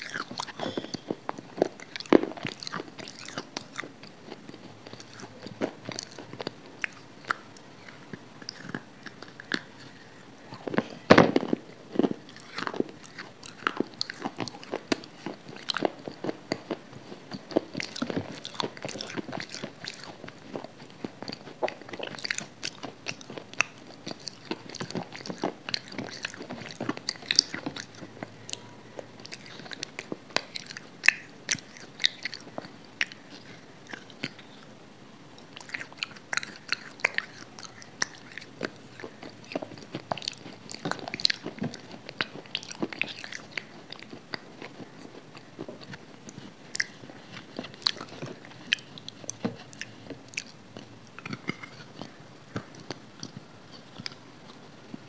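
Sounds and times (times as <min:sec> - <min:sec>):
wet chewing and mouth clicks: 0:00.0 - 0:34.8, 0:35.4 - 0:55.0.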